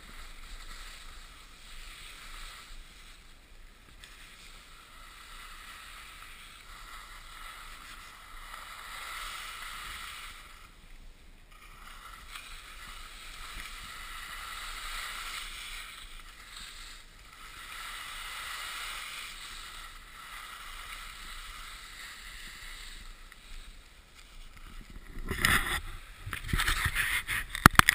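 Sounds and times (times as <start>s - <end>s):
skis sliding on packed snow: 0.0s - 27.9s.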